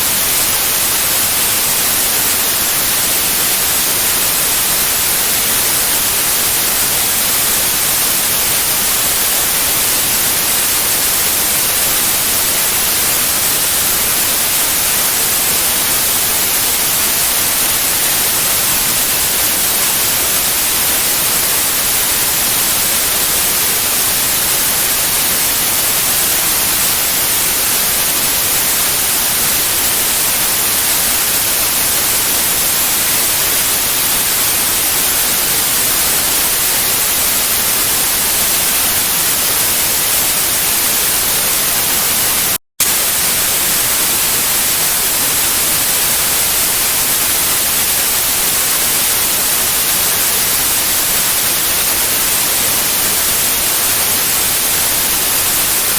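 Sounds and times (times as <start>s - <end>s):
steady white noise hiss: 0.0s - 55.9s.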